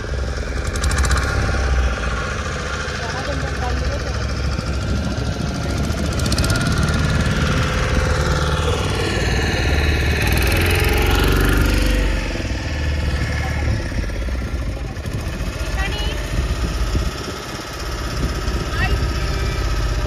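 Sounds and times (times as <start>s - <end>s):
motorboat engine rumbling: 0.0s - 20.0s.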